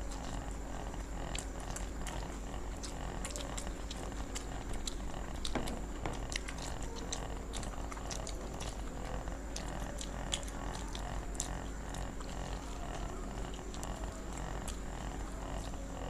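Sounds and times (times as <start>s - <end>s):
constant low hum: 0.0s - 16.0s
people chewing crunchy food: 0.0s - 16.0s.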